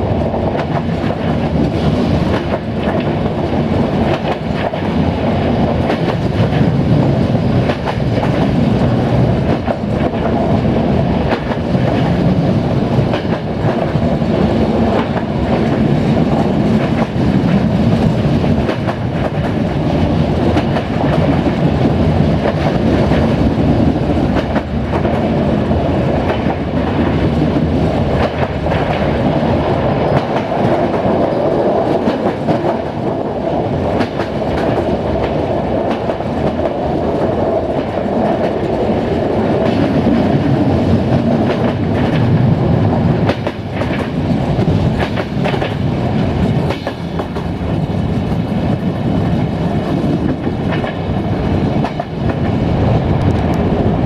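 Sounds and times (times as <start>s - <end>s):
train rolling rumble: 0.0s - 54.0s.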